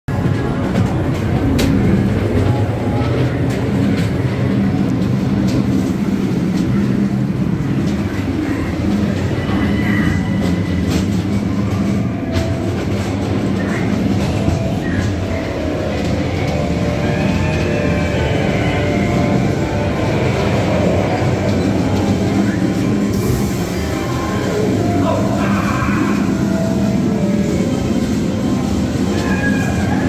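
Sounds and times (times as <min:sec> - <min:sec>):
ride car wheels rumbling: 0:00.1 - 0:30.0.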